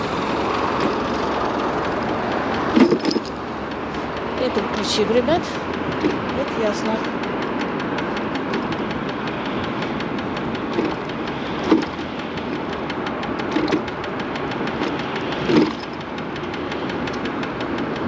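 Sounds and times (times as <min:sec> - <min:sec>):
electric scooter rolling: 0:00.0 - 0:18.0
fast even ticking: 0:00.0 - 0:18.0
front wheel knocking: 0:00.0 - 0:18.0.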